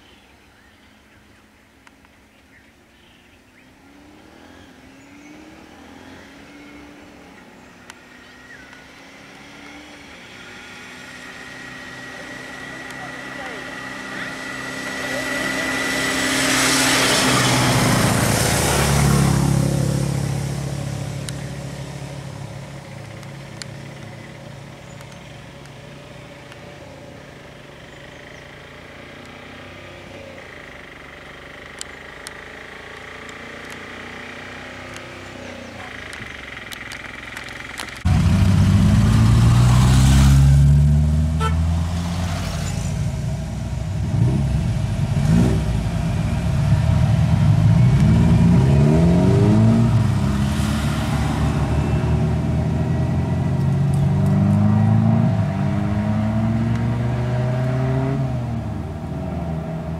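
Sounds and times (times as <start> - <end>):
vehicle passing: 3.8 - 26.4, 27.2 - 59.9
engine revving: 3.8 - 59.9.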